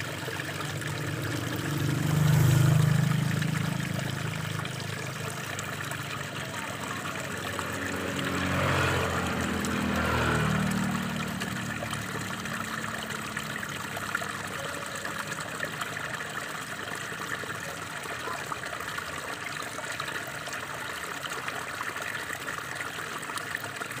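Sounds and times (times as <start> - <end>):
water splashing into pool: 0.0 - 24.0.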